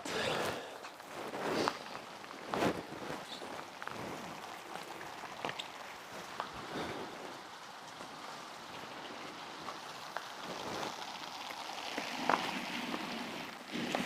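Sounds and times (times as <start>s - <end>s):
rain falling steadily: 0.0s - 14.0s
individual raindrop hits: 0.3s - 14.0s.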